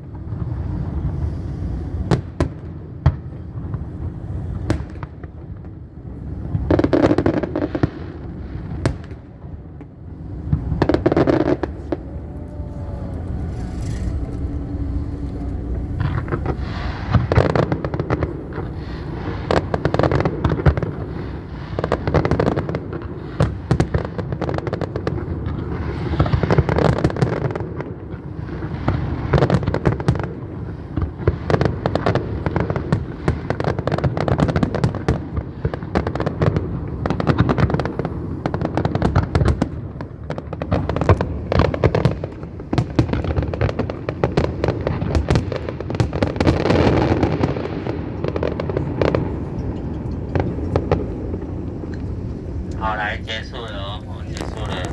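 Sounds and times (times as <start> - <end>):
fireworks banging: 0.0 - 54.9.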